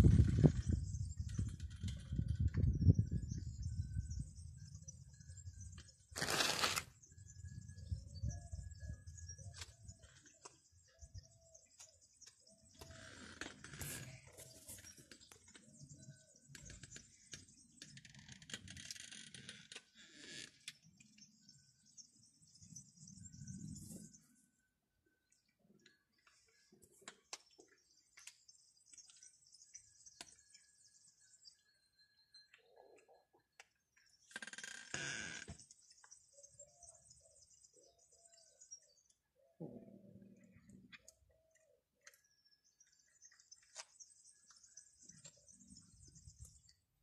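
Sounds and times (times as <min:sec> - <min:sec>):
faint bird chirps: 0:00.0 - 0:47.0.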